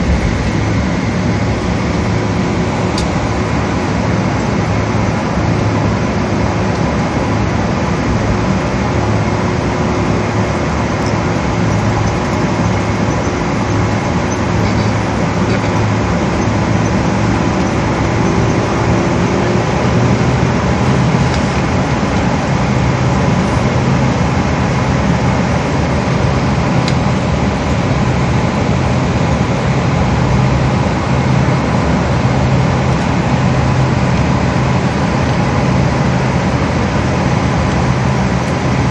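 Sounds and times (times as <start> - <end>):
air conditioning: 0.0 - 38.9
idling jet engines rushing: 0.0 - 38.9
low hum: 0.0 - 38.9.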